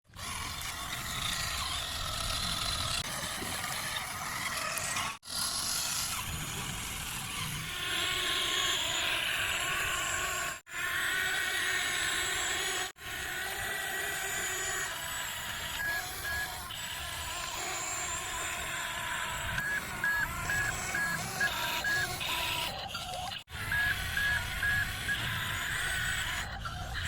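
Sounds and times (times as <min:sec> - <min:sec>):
toy truck electric motor running: 0:00.1 - 0:27.0.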